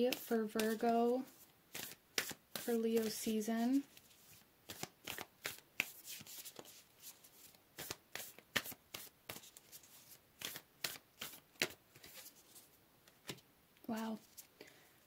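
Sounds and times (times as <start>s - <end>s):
cards being shuffled: 0.0s - 13.4s, 14.1s - 14.5s.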